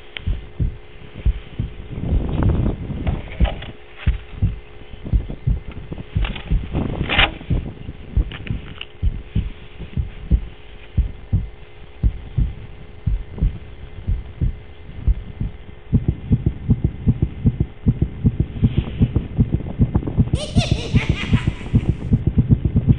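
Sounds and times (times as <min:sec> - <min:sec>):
dull low thumps: 0:00.0 - 0:22.9
faint steady hum: 0:00.0 - 0:22.9.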